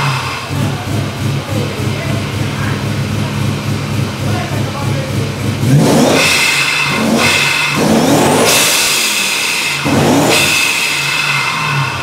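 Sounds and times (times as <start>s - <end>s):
car engine revving with whine: 0.0s - 12.0s.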